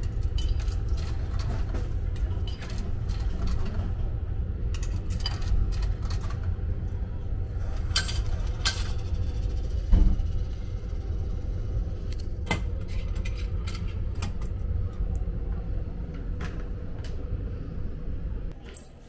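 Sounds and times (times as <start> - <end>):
train carriage rumble: 0.0 - 18.6
faint steady hum: 0.0 - 19.0.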